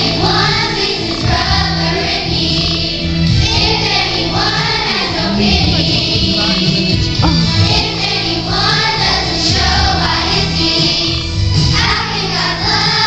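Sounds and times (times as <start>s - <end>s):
boys' choir singing: 0.0s - 13.0s.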